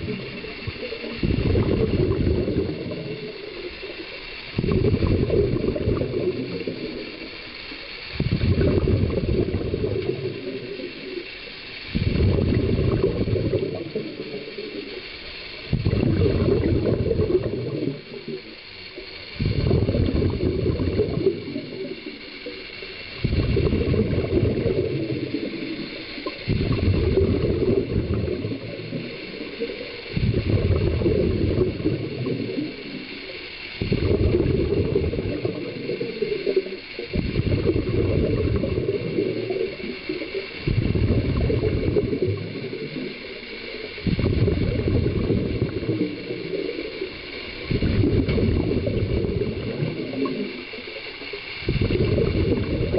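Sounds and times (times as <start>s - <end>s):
underwater regulator bubbling: 0.0s - 52.9s.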